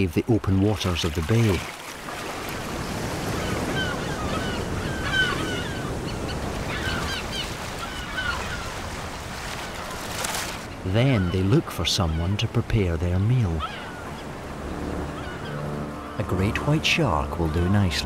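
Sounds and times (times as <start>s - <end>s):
sea water washing: 0.0s - 18.0s
gulls calling: 0.8s - 18.0s.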